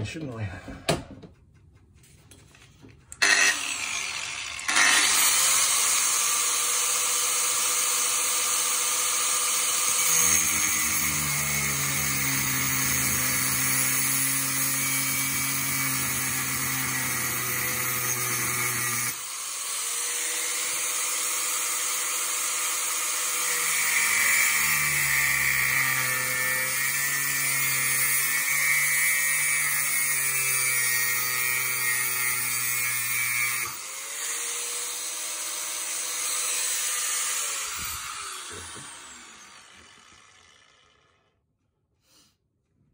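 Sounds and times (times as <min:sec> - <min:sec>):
angle grinder grinding metal: 0:03.1 - 0:41.3.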